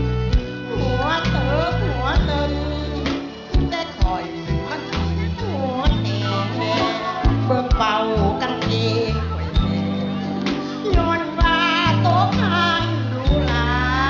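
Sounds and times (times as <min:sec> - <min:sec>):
bass line: 0:00.0 - 0:14.0
person singing into a microphone: 0:00.0 - 0:14.0.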